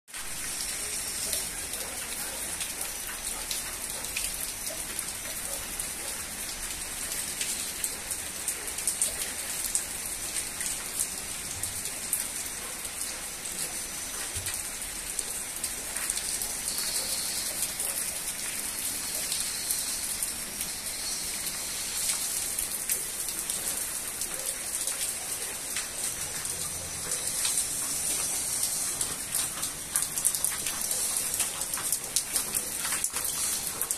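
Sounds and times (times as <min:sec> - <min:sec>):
close rain drop splashes: 0:00.1 - 0:33.9
heavy rain on paving: 0:00.1 - 0:33.9.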